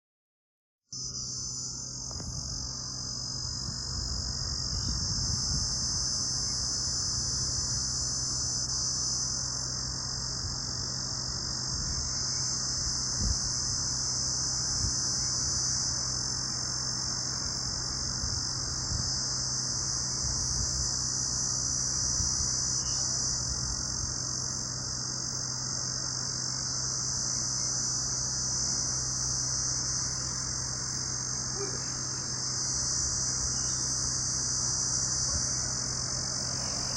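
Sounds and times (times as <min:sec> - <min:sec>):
night insects trilling: 0:01.0 - 0:36.9.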